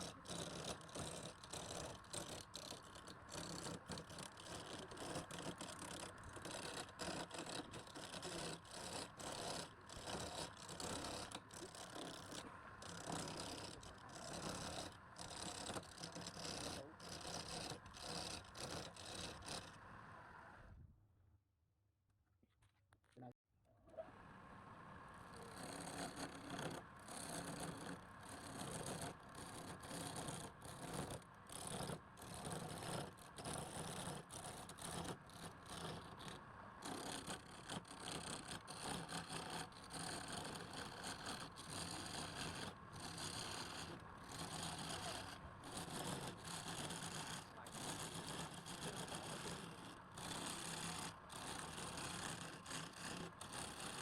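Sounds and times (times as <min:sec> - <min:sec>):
wood lathe motor whirring: 0:00.0 - 0:19.8, 0:25.3 - 0:54.0.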